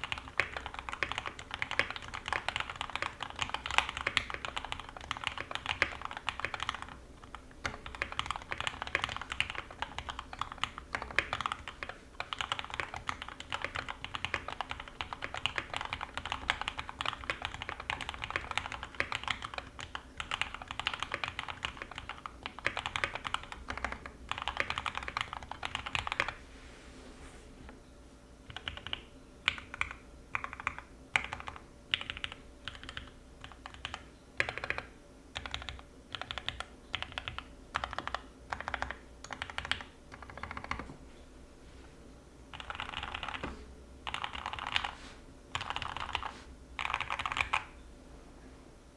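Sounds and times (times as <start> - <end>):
typing on mechanical keyboard: 0.0 - 26.4, 28.5 - 40.9, 42.5 - 43.5, 44.1 - 47.7.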